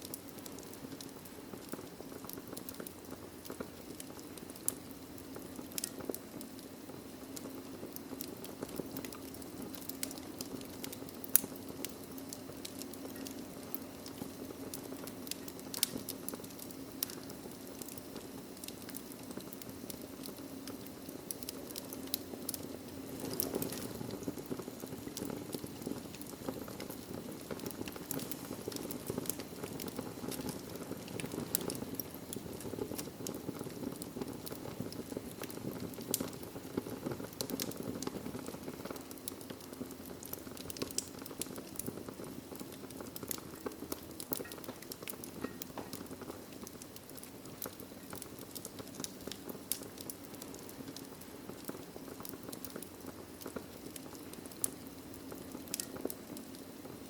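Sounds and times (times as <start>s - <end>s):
fire crackling and popping: 0.0s - 57.0s
fire flames rushing: 0.1s - 57.0s.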